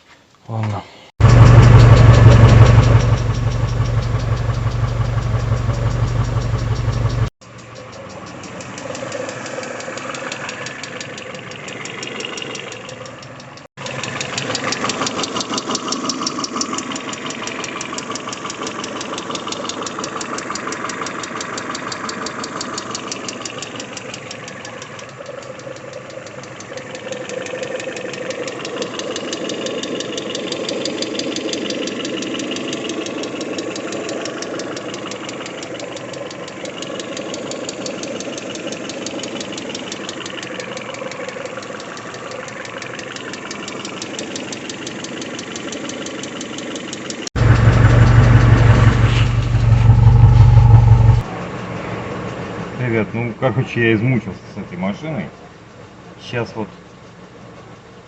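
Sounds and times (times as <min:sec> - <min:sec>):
car engine idling: 0:01.2 - 0:07.3, 0:09.9 - 0:51.3
engine ticking knock: 0:01.2 - 0:51.3.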